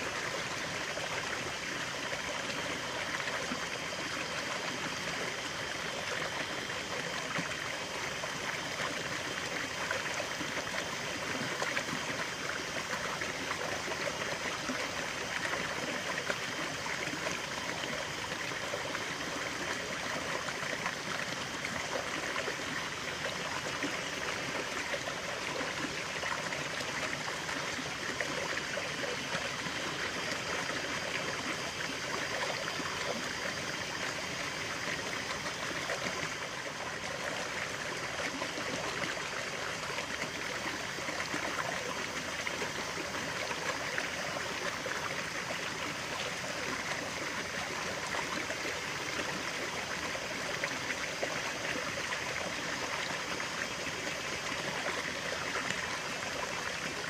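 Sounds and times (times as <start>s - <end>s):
stream of running water: 0.0s - 57.0s.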